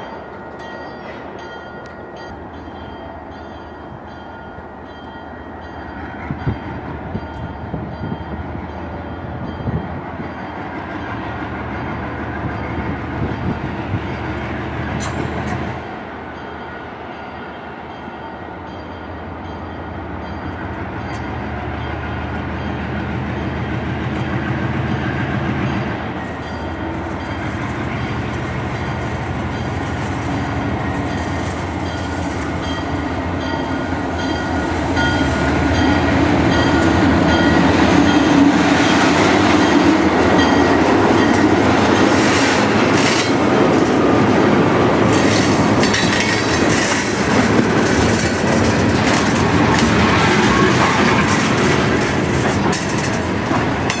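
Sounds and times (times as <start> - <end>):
train wheels clattering on rails: 5.0 - 16.0, 18.8 - 54.0.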